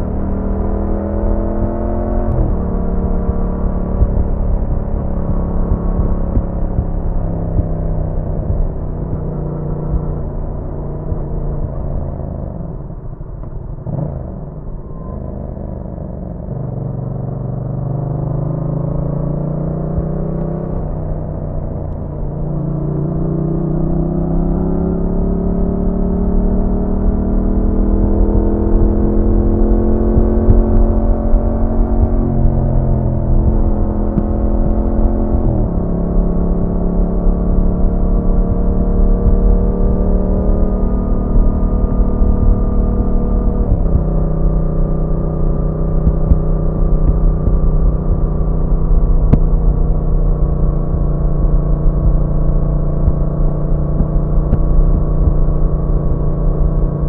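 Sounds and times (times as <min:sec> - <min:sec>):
motorcycle engine revving: 0:00.0 - 0:57.0
road and wind rush: 0:00.0 - 0:57.0.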